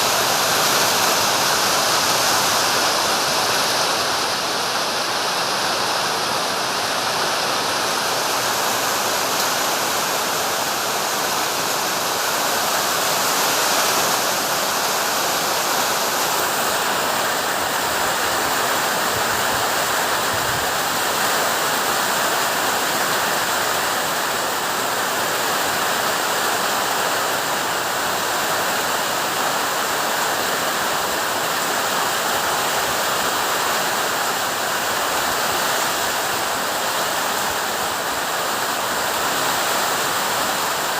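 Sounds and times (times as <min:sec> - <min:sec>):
heavy rain hissing: 0:00.0 - 0:40.9
strong wind: 0:00.0 - 0:40.9.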